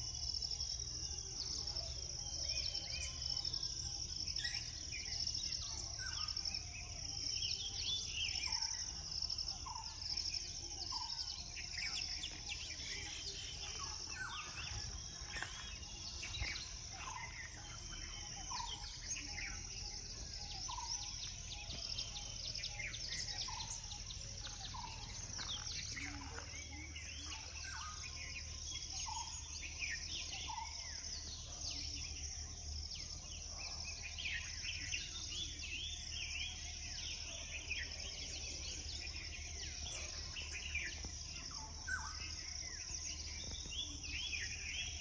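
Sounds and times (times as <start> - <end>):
insect trill: 0.0 - 45.0
small birds chirping: 0.0 - 45.0.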